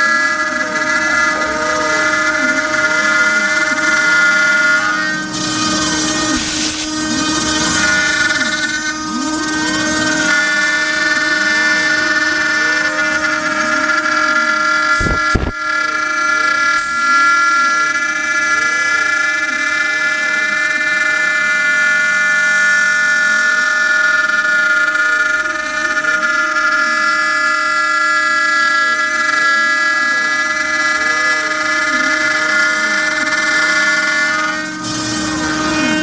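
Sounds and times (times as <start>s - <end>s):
spindle high whine: 0.0s - 36.0s
stepper motors whirring: 0.0s - 36.0s.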